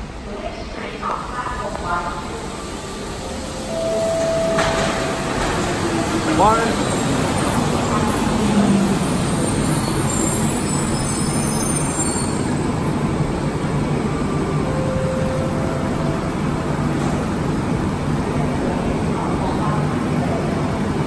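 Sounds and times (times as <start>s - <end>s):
light-rail train rumbling: 0.0s - 21.0s.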